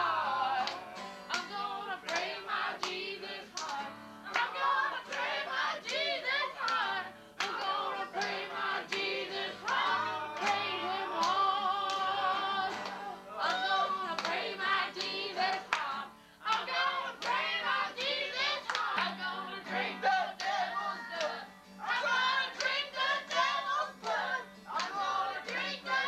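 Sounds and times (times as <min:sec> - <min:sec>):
group singing praise song: 0:00.0 - 0:26.0
hands clapping on the beat: 0:00.0 - 0:26.0.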